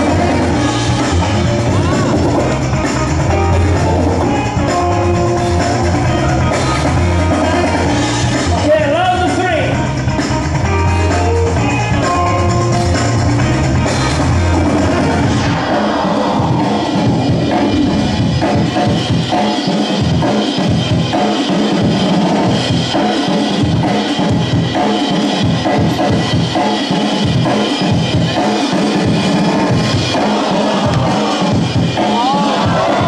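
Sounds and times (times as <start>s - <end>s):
drum-heavy break-beat music: 0.0s - 33.0s.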